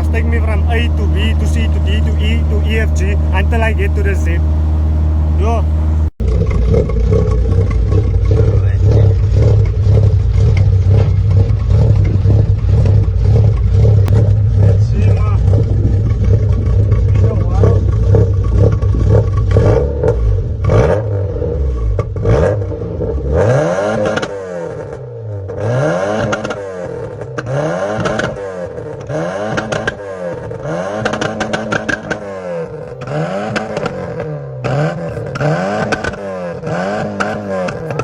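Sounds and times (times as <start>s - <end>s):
car engine droning and revving: 0.0s - 38.0s.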